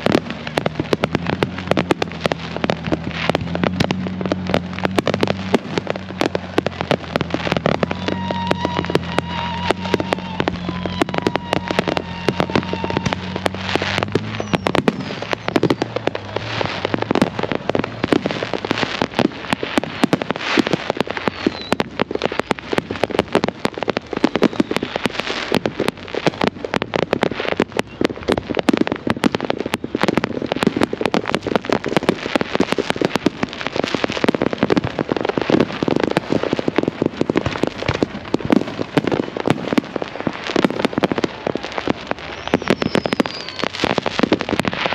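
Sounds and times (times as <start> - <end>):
fireworks popping and banging: 0.0 - 44.9.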